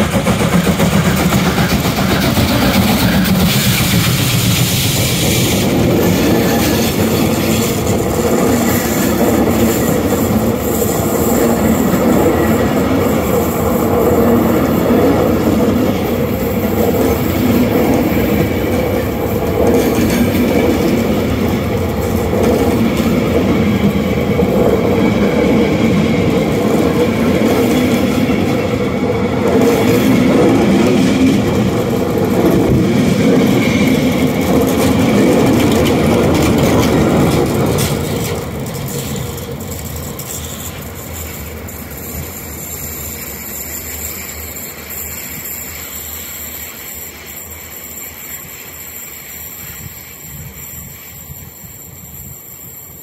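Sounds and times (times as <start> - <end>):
train coaches rolling past: 0.0 - 53.0
train wheel squeal: 0.0 - 53.0.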